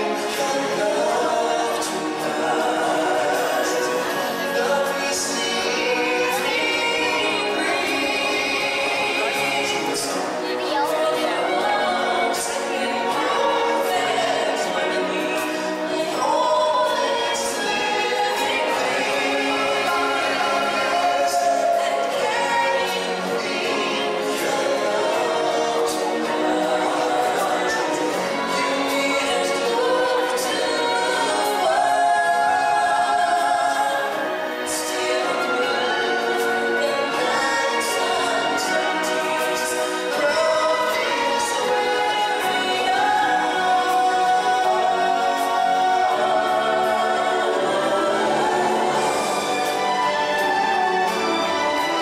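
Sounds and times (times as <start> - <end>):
backing music: 0.0 - 52.0
choir singing: 0.0 - 52.0.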